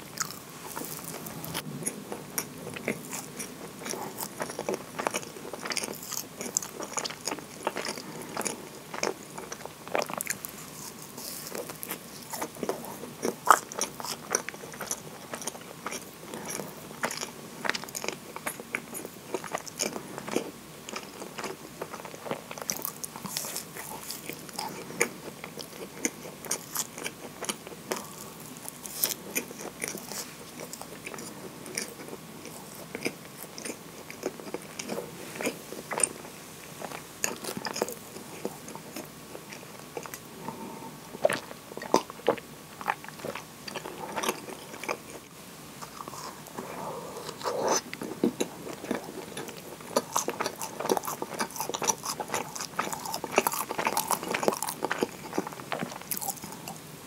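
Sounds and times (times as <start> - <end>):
person chewing: 0.1 - 56.8.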